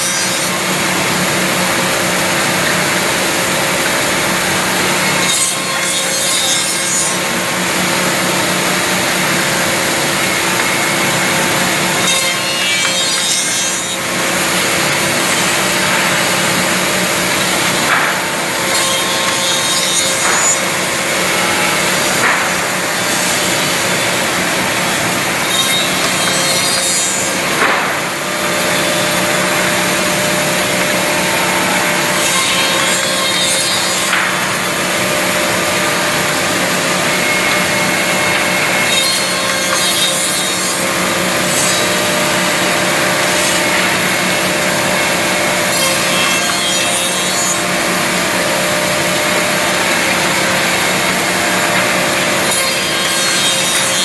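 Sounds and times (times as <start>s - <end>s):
woodworking machine whirring: 0.0s - 54.0s.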